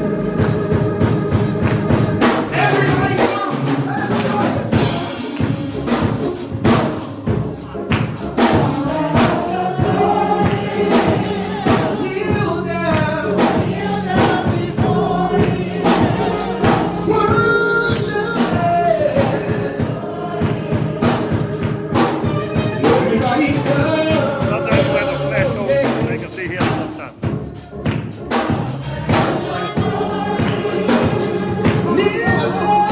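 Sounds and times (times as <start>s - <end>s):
choir singing gospel music: 0.0s - 32.9s
drum kit and band: 0.0s - 32.9s.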